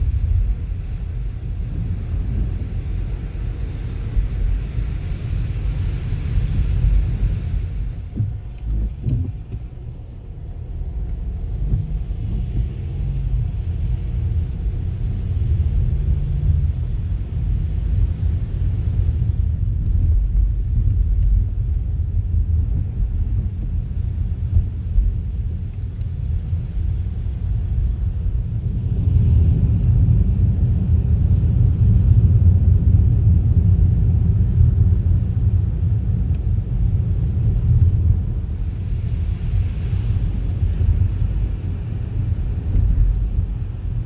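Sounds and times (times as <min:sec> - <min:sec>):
car driving rumble: 0:00.0 - 0:44.0.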